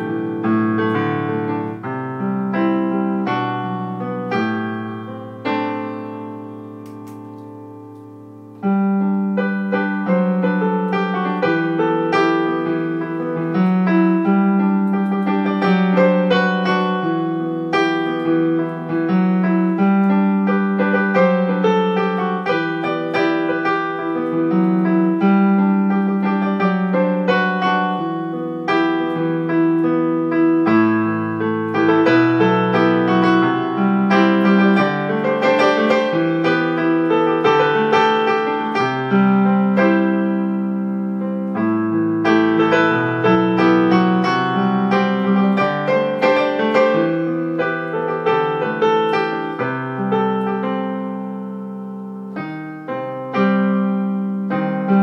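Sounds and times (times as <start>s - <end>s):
solo piano pop ballad: 0.0s - 55.0s.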